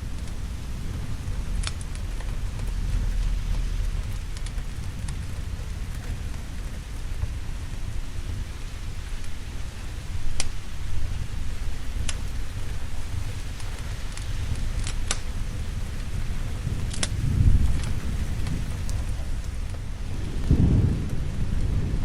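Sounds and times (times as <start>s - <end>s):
steady rain falling: 0.0s - 22.0s
thunder rumbling: 0.0s - 22.0s.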